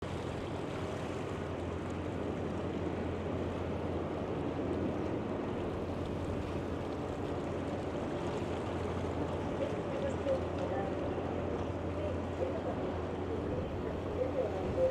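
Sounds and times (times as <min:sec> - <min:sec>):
constant low hum: 0:00.0 - 0:14.9.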